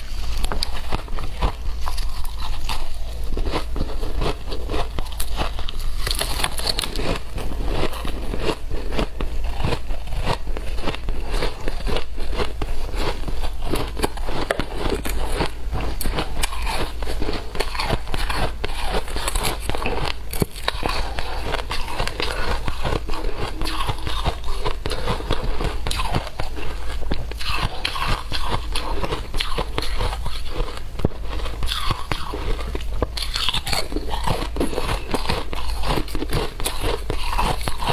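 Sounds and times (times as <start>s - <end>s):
faint low hum: 0.0s - 37.9s
ice crunching while chewed: 0.0s - 37.9s.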